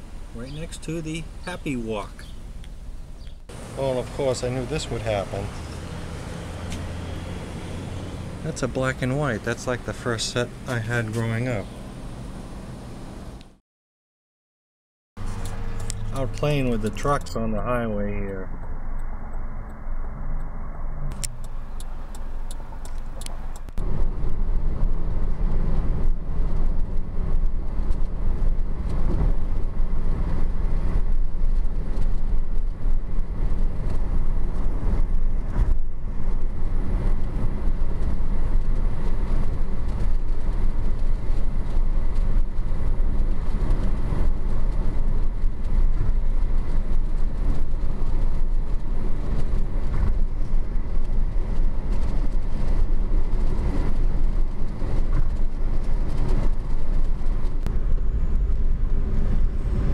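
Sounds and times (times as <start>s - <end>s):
car road noise at highway speed: 0.0s - 13.6s, 15.2s - 59.9s.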